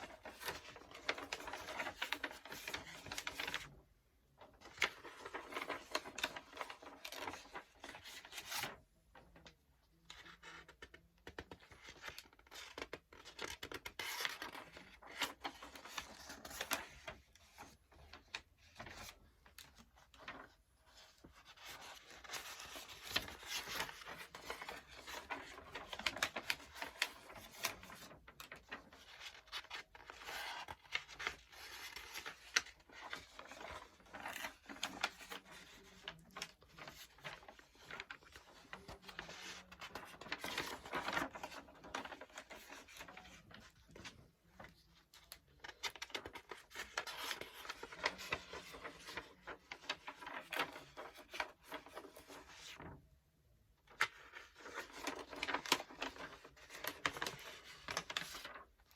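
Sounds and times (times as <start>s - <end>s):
book pages turning: 0.0s - 8.8s, 9.4s - 53.0s, 53.8s - 58.9s.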